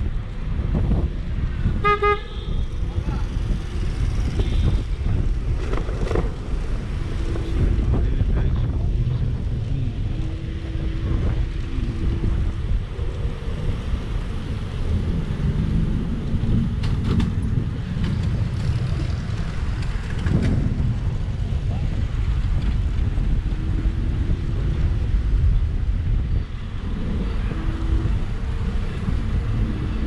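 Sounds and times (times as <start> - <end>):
scooter road noise: 0.0 - 30.0
wind on microphone: 0.0 - 30.0.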